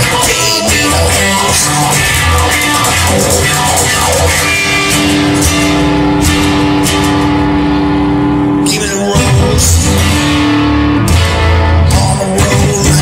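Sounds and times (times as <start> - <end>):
rock music instrumental: 0.0 - 13.0.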